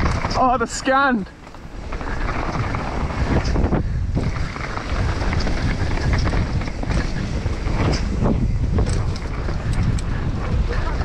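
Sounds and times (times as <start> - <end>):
wind on microphone: 0.0 - 0.7, 1.4 - 11.0
bike rattling on dirt trail: 0.0 - 11.0.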